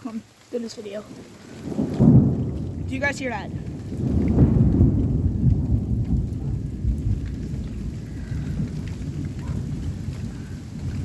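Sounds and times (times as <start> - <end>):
steady rain: 0.0 - 11.0
rumble of thunder: 1.1 - 11.0.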